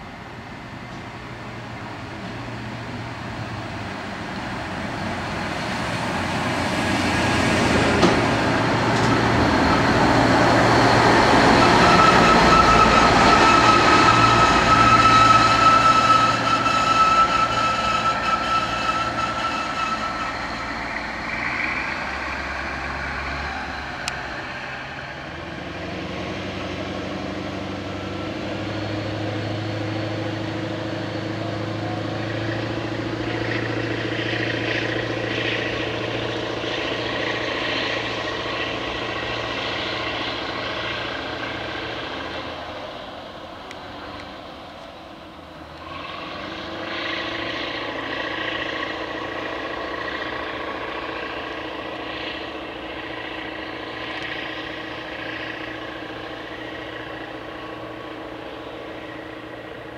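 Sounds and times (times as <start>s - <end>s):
diesel engine: 0.0s - 59.9s
wheels on rails: 2.2s - 59.9s
high squeal: 6.0s - 43.2s, 45.8s - 59.9s.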